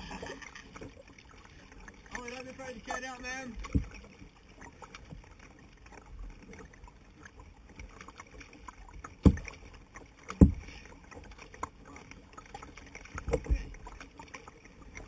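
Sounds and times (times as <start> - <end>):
small splashes and drips: 0.0 - 15.0
water washing against hull: 0.0 - 15.0.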